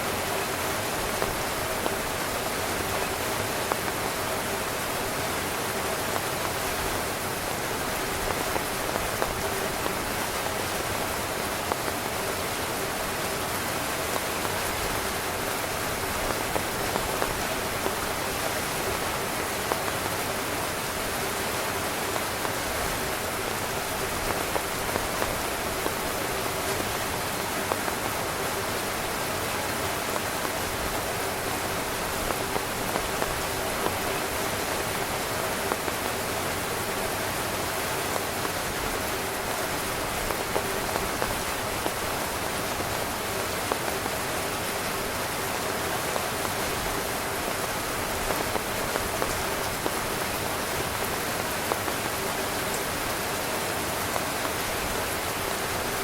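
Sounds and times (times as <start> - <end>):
heavy rain pattering on tent: 0.0 - 56.0.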